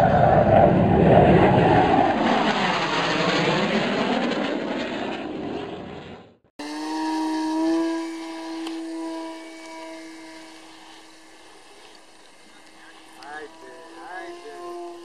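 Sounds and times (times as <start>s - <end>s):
aircraft engine passing by: 0.0s - 15.0s
model aeroplane motor whine: 2.6s - 15.0s.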